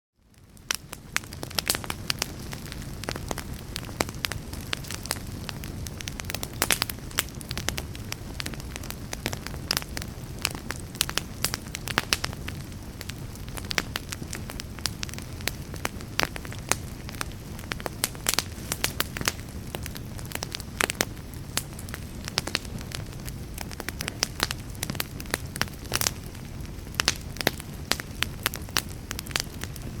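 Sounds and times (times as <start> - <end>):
fire rumbling: 0.2 - 30.0
wood crackling and popping: 0.2 - 30.0.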